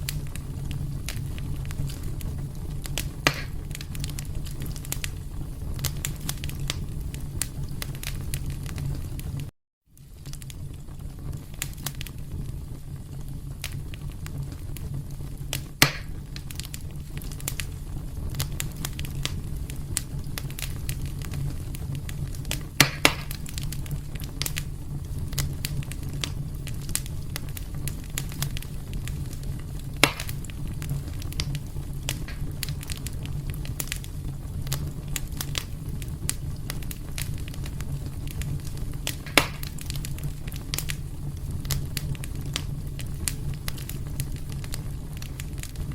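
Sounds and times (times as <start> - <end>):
fire popping: 0.0 - 45.9
wood fire crackling: 0.0 - 45.9.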